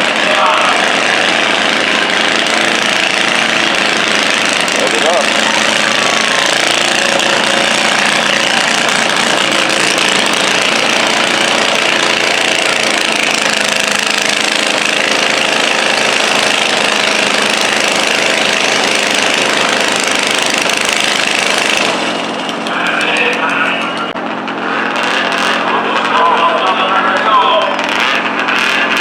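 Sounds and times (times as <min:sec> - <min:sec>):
tractor engine running hard: 0:00.0 - 0:29.0.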